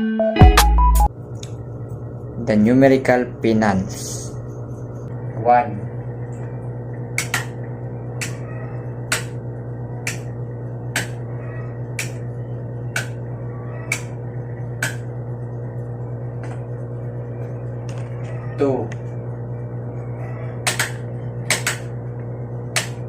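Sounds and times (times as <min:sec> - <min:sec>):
steady low hum: 0:01.0 - 0:23.0.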